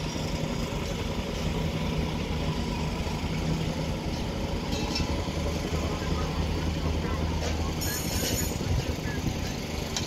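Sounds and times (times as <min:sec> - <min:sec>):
heavy machinery engine idling: 0:00.0 - 0:10.0.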